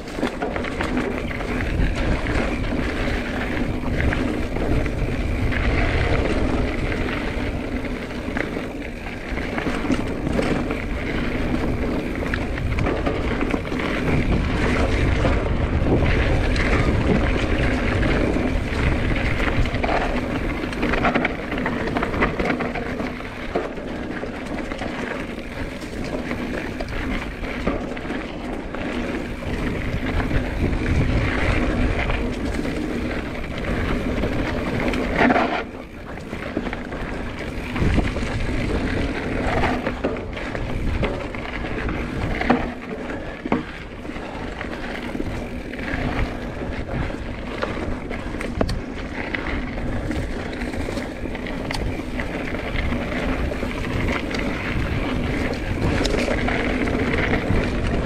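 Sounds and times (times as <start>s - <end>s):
bike rattling: 0.0s - 58.0s
tyres rolling over dirt: 0.0s - 58.0s
wind rushing over microphone: 0.0s - 58.0s.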